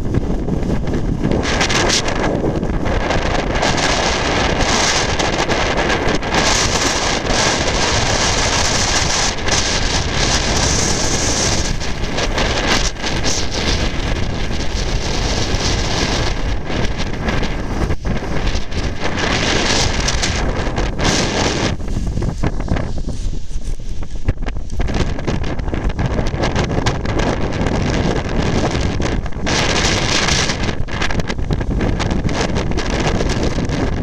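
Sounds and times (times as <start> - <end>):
strong wind on microphone: 0.0 - 34.0.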